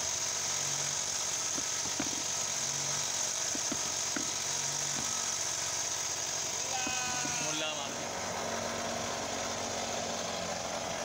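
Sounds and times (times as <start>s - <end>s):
boat engine idling: 0.0s - 11.0s
constant high hiss: 0.0s - 11.0s.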